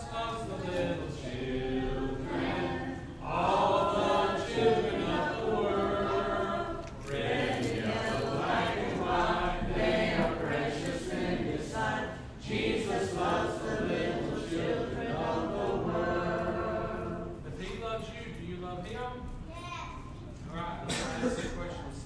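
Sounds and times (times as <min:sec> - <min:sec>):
children and adult singing: 0:00.0 - 0:17.8.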